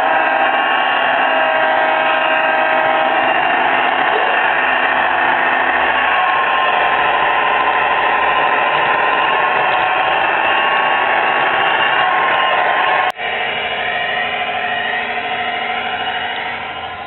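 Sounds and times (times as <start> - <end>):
model locomotive drive whir: 0.0 - 17.0
simulated diesel engine sound: 0.0 - 17.0.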